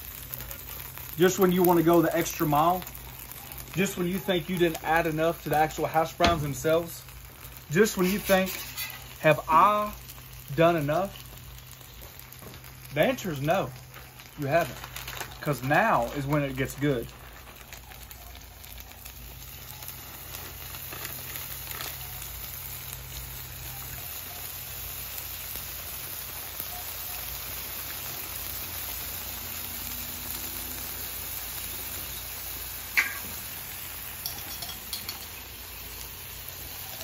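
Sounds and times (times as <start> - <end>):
faint crackles: 0.0 - 37.0
food sizzling on a griddle: 0.0 - 37.0.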